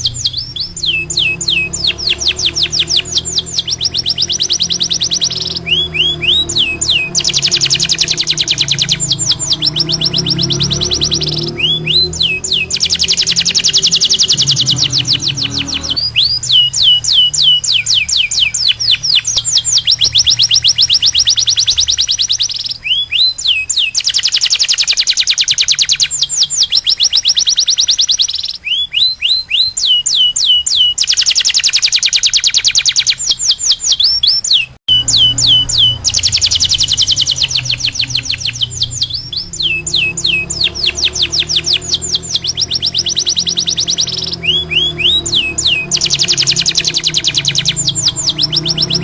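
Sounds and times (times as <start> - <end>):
canary singing: 0.0 - 49.0.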